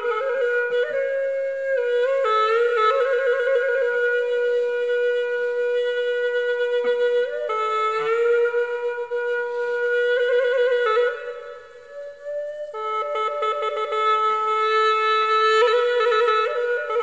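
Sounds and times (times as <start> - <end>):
solo wind instrument melody: 0.0 - 17.0.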